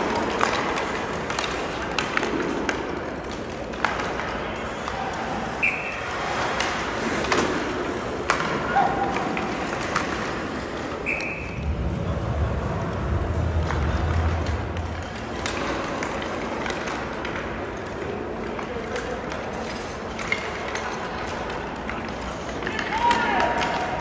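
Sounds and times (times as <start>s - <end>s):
sticks and puck clacking: 0.0s - 24.0s.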